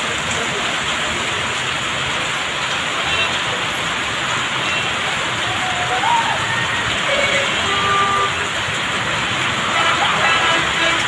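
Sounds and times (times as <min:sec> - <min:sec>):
heavy rain on a street: 0:00.0 - 0:11.0.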